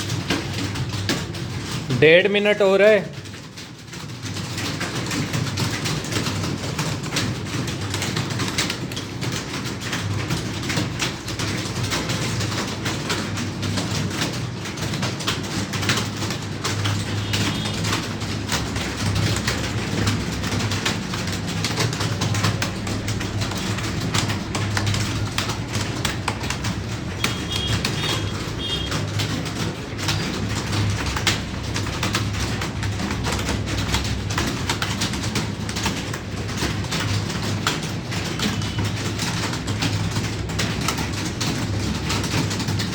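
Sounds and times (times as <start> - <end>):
clatter of keyboard typing: 0.0 - 42.9.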